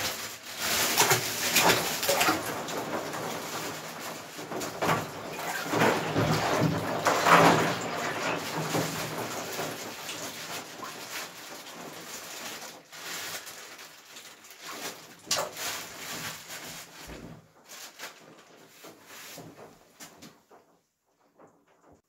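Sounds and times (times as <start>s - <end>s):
water sloshing in bathtub: 0.0s - 22.0s.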